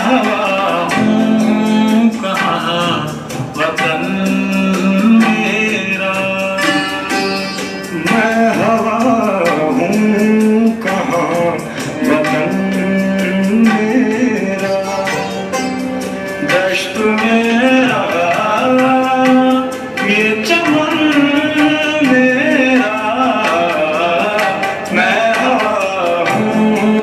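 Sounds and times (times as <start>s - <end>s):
hand drum beat: 0.0s - 27.0s
person singing: 0.0s - 27.0s
plucked strings: 0.0s - 27.0s.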